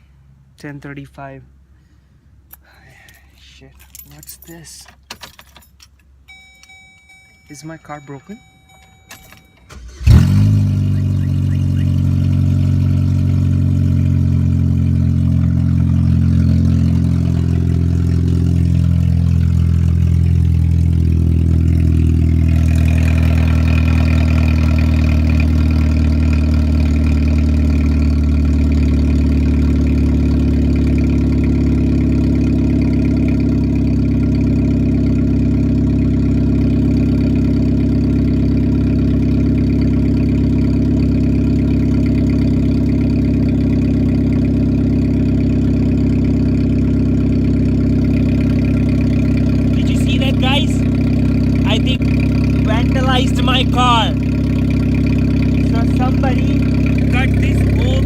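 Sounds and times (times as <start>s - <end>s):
car engine starting and idling: 5.0s - 58.0s.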